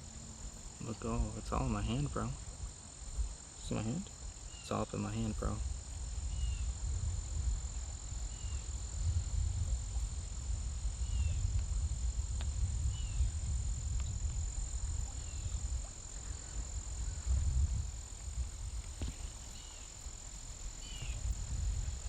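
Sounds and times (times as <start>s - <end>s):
high-pitched insect trill: 0.0s - 22.0s
wind rumble on microphone: 0.0s - 22.0s.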